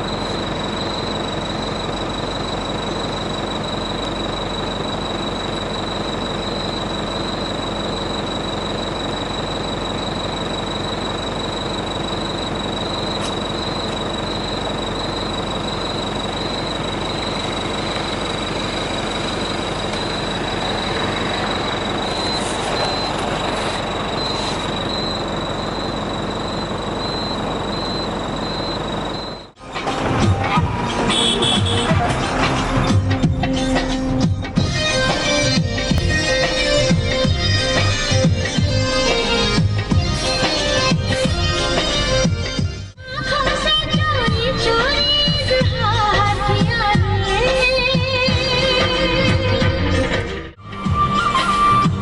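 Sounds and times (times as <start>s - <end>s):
diesel engine running: 0.0s - 52.0s
high-pitched whine: 0.0s - 52.0s.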